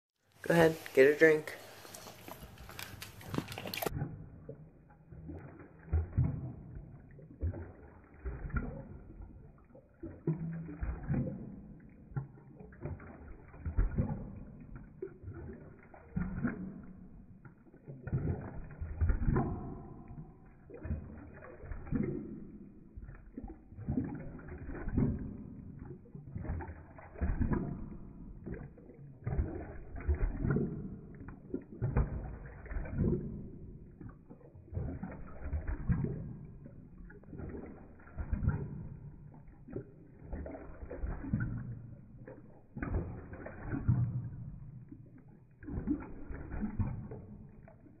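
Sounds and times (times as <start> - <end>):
dog lapping water slowed down: 0.2 - 48.0.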